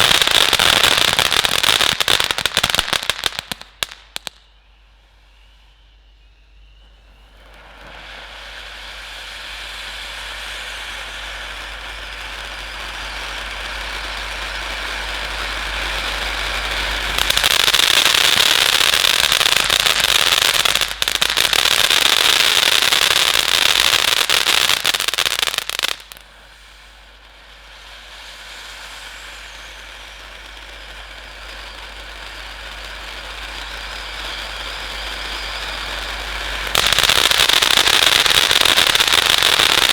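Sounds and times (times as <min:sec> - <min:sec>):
fountain firework hissing: 0:00.0 - 0:04.4, 0:06.6 - 0:39.9.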